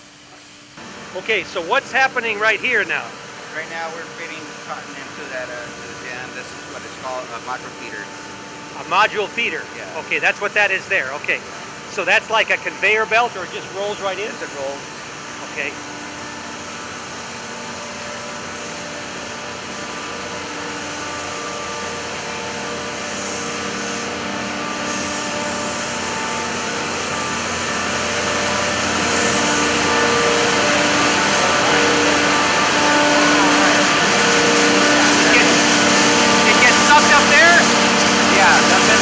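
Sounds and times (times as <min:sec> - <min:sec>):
cotton gin machinery humming: 0:00.0 - 0:39.0.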